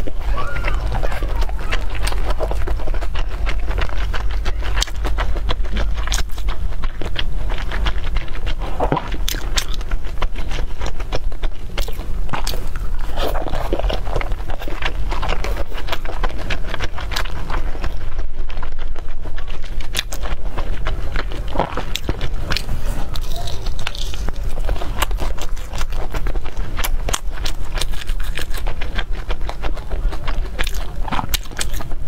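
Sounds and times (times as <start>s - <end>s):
chewing and biting food: 0.0s - 32.0s
steady low hum: 0.0s - 32.0s.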